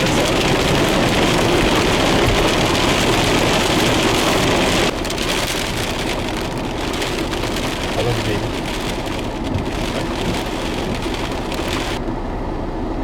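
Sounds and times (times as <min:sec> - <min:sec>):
heavy rain: 0:00.0 - 0:12.0
wind: 0:00.0 - 0:13.0.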